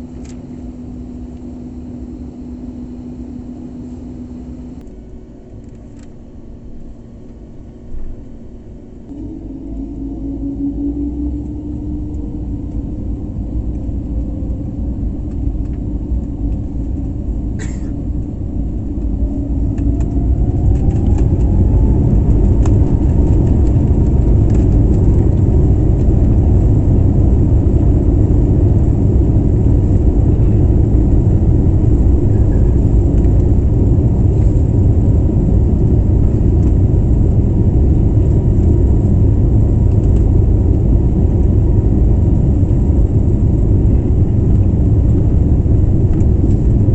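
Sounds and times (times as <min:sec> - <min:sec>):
jet engines during takeoff: 0:00.0 - 0:46.9.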